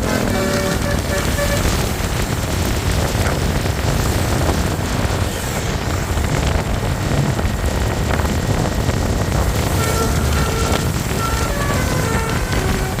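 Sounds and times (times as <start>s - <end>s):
even road hiss: 0.0s - 13.0s
low engine rumble of traffic: 0.0s - 13.0s.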